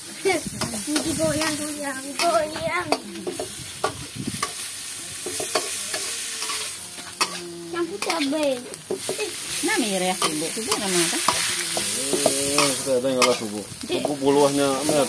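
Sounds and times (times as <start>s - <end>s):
frying sizzle: 0.0s - 15.0s
metal spatula scraping a wok: 0.1s - 15.0s.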